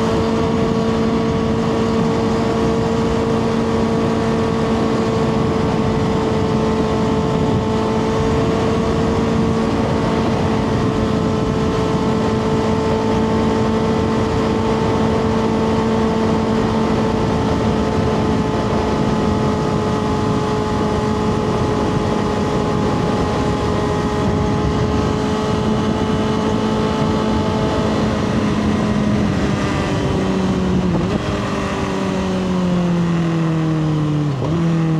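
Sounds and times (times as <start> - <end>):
motorcycle engine cruising: 0.0 - 34.9
wind and road noise: 0.0 - 34.9.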